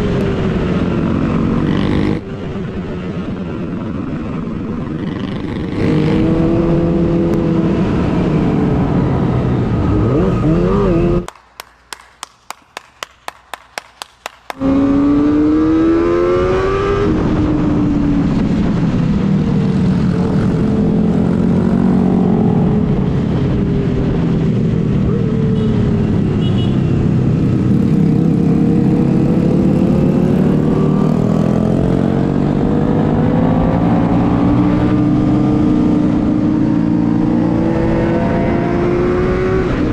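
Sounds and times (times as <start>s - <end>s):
motorcycle engine revving: 0.0s - 2.6s, 4.8s - 11.3s, 14.6s - 39.9s.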